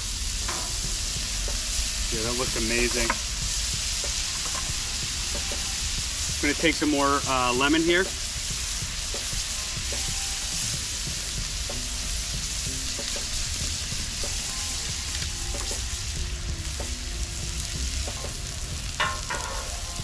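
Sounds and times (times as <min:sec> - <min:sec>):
fish sizzling on a griddle: 0:00.0 - 0:20.0.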